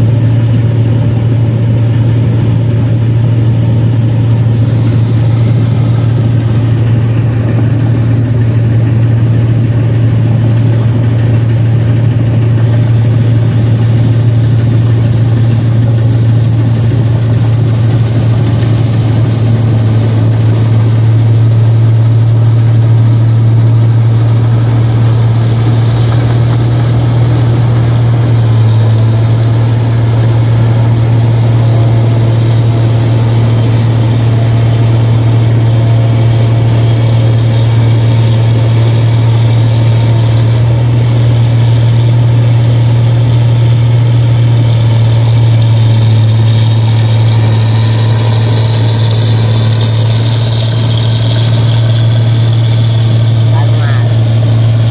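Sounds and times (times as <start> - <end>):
harvester engine droning: 0.0 - 54.9.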